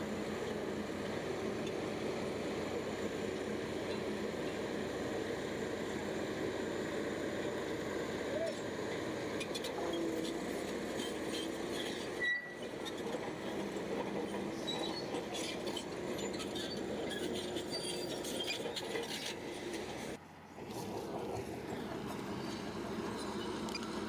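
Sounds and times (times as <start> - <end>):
bulldozer engine running: 0.0 - 24.0.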